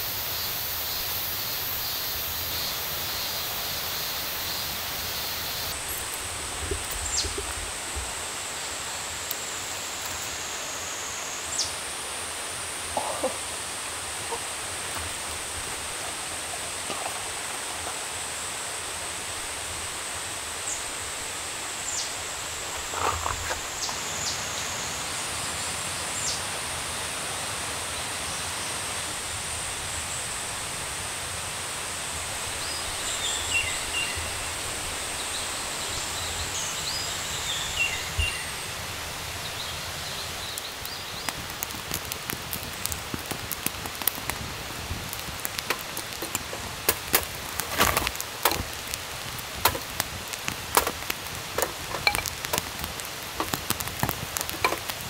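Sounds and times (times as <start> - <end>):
background hiss: 0.0 - 55.0
insects droning: 0.0 - 55.0.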